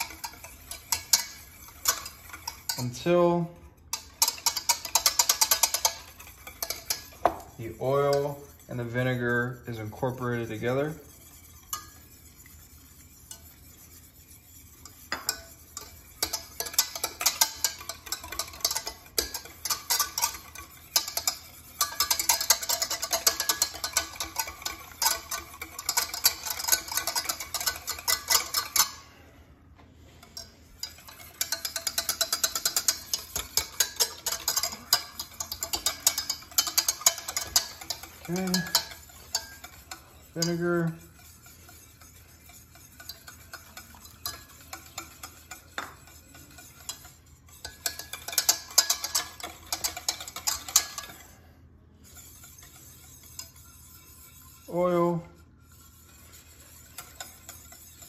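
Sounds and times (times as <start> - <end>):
whisk clicking against metal pan: 0.0 - 29.0, 30.2 - 51.4, 52.0 - 58.0.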